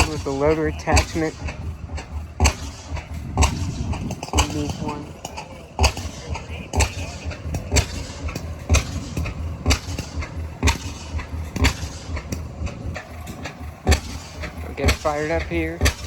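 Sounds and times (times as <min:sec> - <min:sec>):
antique engine popping: 0:00.0 - 0:16.0
low rumble: 0:00.0 - 0:16.0.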